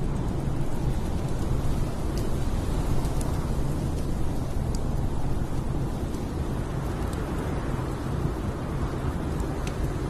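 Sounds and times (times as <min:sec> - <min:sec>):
storm wind rumbling: 0:00.0 - 0:10.0
wood fire crackling: 0:00.0 - 0:10.0.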